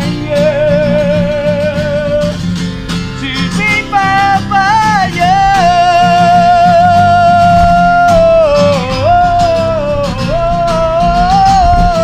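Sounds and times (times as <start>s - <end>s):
man singing: 0.0s - 2.4s, 3.1s - 12.0s
strummed acoustic guitar: 0.0s - 12.0s.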